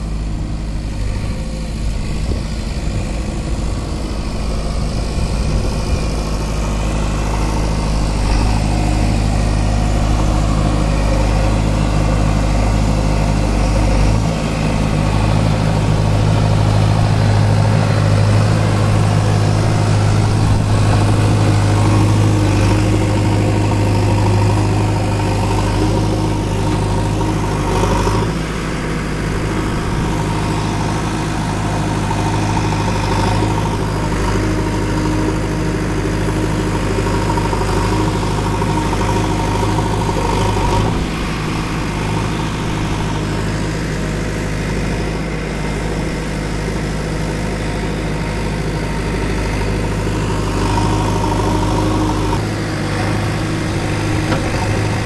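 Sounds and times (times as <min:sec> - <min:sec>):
backhoe digging and dumping sand: 0:00.0 - 0:55.0
diesel engine running: 0:00.0 - 0:55.0.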